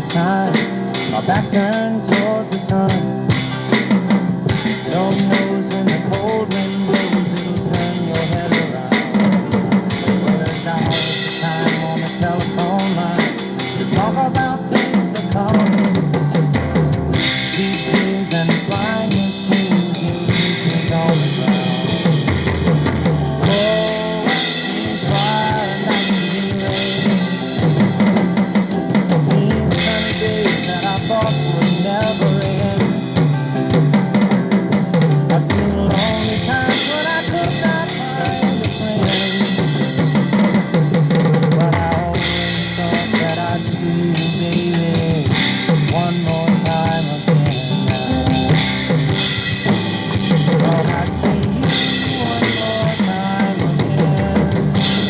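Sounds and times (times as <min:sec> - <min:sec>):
drum kit playing: 0:00.0 - 0:55.0
recorded band backing: 0:00.0 - 0:55.0.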